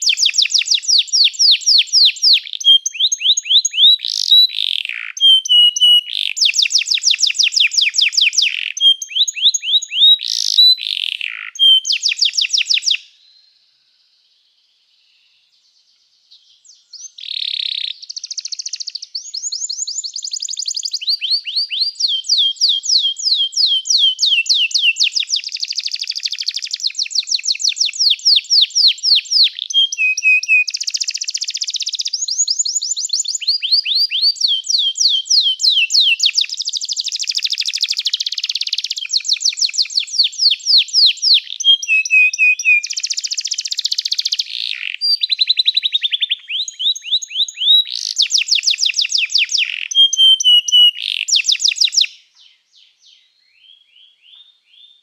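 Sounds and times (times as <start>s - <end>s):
canary singing rolling trills: 0.0s - 13.1s, 16.4s - 55.0s.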